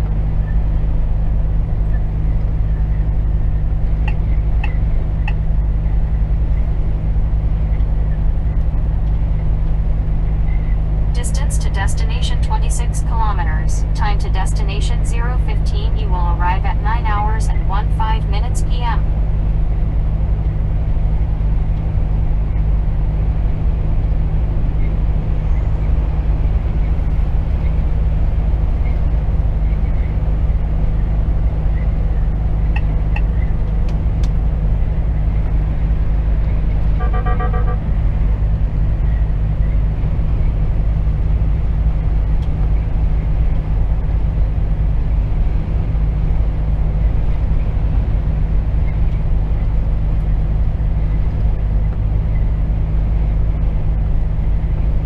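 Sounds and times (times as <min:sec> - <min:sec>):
diesel truck engine cruising: 0:00.0 - 0:55.0
road and tyre noise: 0:00.0 - 0:55.0.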